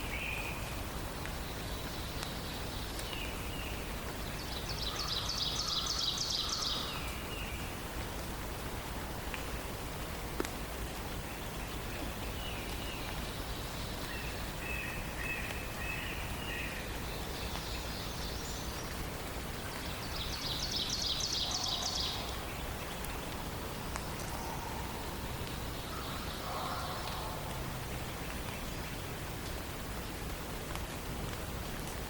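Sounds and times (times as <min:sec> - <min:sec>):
songbirds singing: 0:00.0 - 0:07.9, 0:10.6 - 0:30.1
forest ambience hiss: 0:00.0 - 0:32.0.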